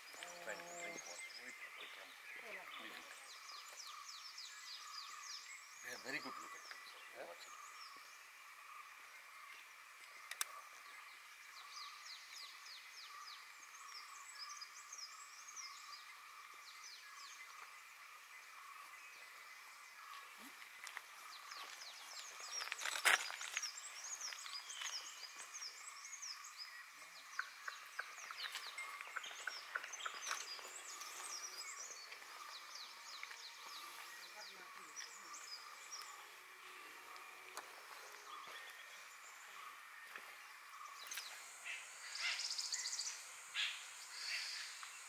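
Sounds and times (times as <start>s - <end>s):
birds chirping: 0.0s - 45.0s
insects humming: 0.0s - 45.0s.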